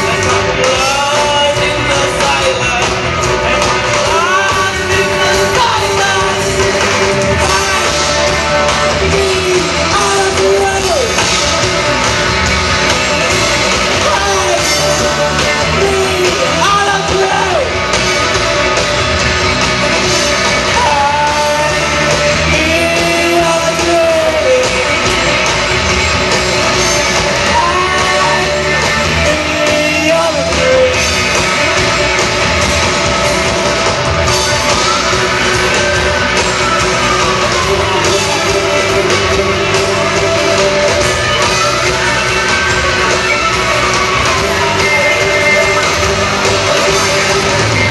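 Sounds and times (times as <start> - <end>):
person singing: 0.0 - 11.5, 13.1 - 17.9, 19.8 - 25.5, 26.6 - 31.9, 34.3 - 47.9
live band playing: 0.0 - 47.9.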